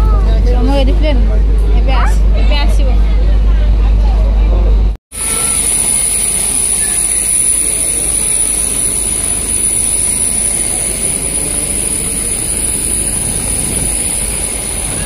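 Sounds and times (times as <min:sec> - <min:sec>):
jet aircraft rumble and whine: 0:00.0 - 0:15.0.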